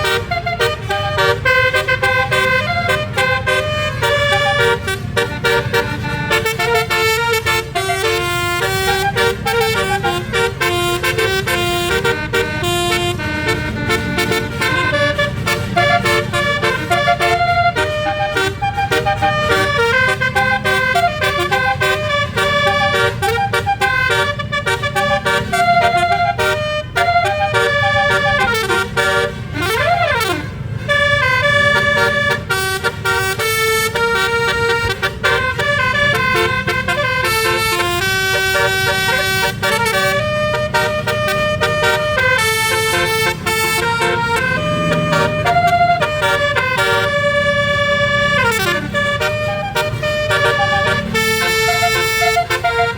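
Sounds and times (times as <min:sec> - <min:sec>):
musical air horn playing melody: 0:00.0 - 0:52.9.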